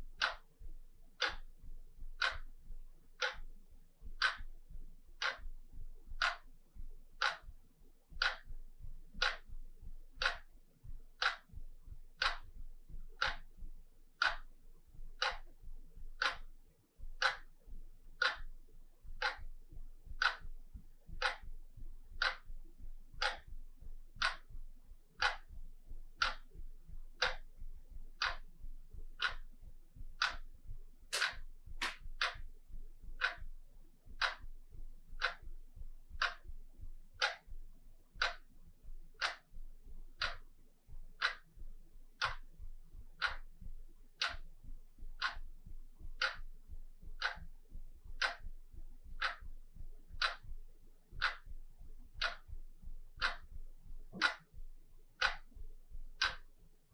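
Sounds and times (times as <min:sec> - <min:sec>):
wall clock ticking: 0:00.0 - 0:56.9.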